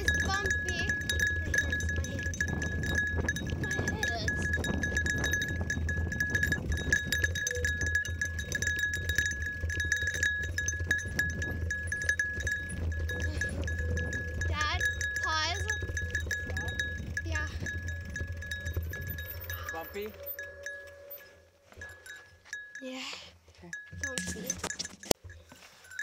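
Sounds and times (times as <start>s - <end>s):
bike rolling on dirt trail: 0.0s - 22.8s
bike rattling and clicking: 0.0s - 26.0s
high ringing tone: 0.0s - 26.0s.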